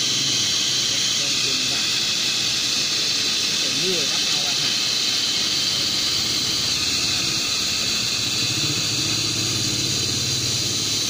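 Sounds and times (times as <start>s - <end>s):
hot air gun hissing: 0.0s - 11.0s.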